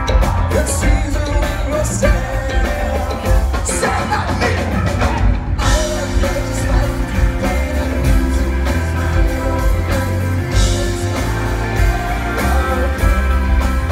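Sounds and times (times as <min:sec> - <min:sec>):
live rock band playing: 0:00.0 - 0:13.9.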